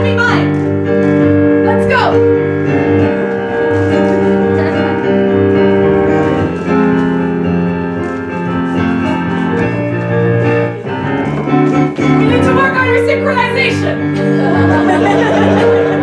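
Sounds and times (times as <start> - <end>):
piano playing chords and melody: 0.0 - 16.0.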